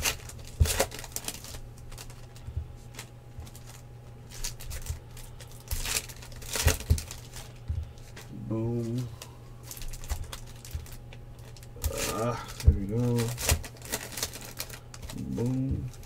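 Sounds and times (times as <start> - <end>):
low steady hum: 0.0 - 16.0
wrappers rustling and tearing: 0.0 - 16.0.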